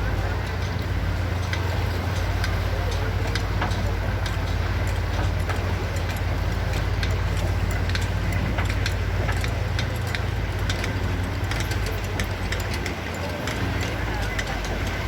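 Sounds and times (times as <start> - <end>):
machinery engine rumbling: 0.0 - 15.0.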